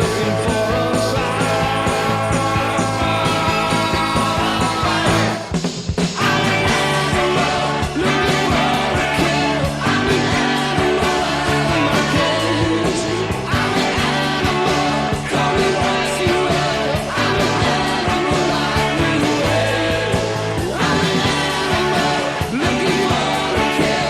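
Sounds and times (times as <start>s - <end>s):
male lead vocal: 0.0s - 5.5s, 6.1s - 24.0s
hard rock band playing: 0.0s - 24.0s.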